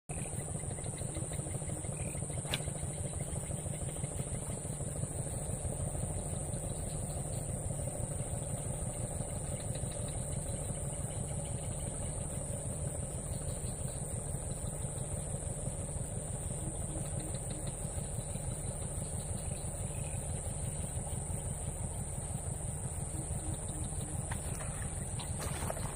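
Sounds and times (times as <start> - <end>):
small engine idling: 0.1 - 25.9.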